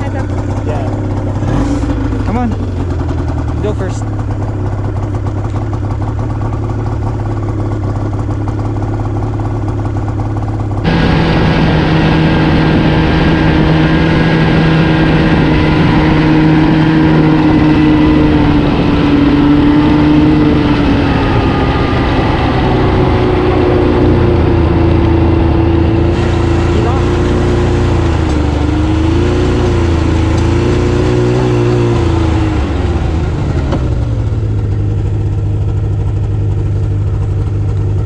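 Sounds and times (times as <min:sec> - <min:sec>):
snowmobile engine: 0:00.0 - 0:38.0.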